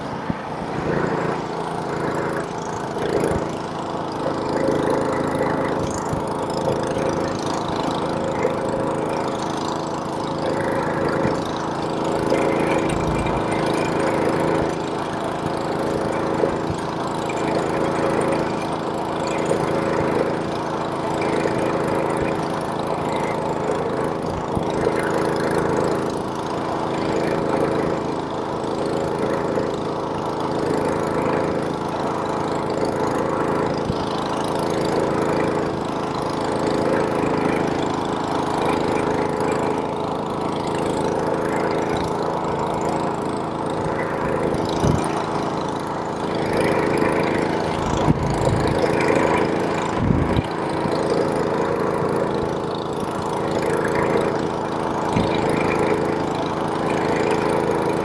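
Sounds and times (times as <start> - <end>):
snowblower engine drone: 0.0 - 58.0.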